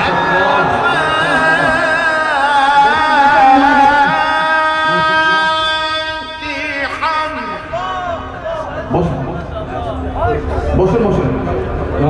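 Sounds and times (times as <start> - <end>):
man reciting in song: 0.0 - 10.0.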